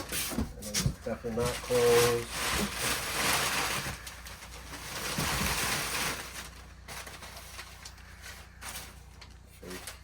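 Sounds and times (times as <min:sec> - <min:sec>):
objects rustling and scraping: 0:00.0 - 0:10.0.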